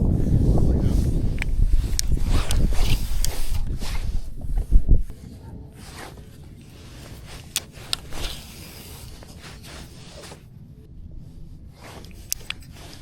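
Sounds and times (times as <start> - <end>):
low steady rumble: 0.0 - 13.0
soft rubbing handling noise: 0.0 - 13.0.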